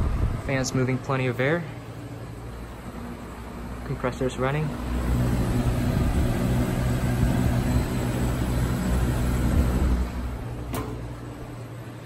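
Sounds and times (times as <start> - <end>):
box fan air rush: 0.0 - 12.0
compressor humming: 0.0 - 12.0.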